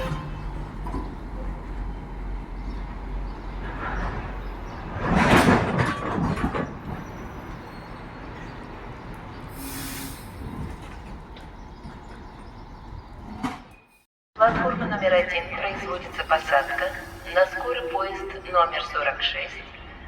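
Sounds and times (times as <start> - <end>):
low station rumble: 0.0 - 13.4, 14.5 - 20.0.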